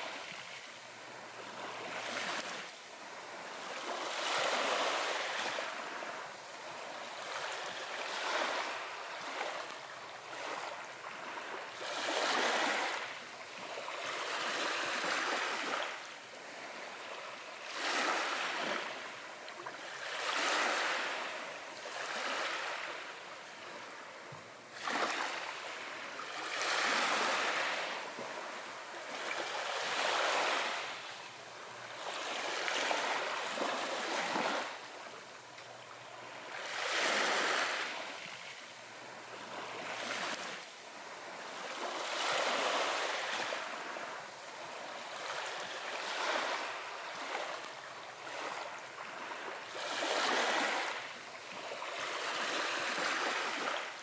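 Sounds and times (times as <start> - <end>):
ocean waves washing in: 0.0 - 54.0.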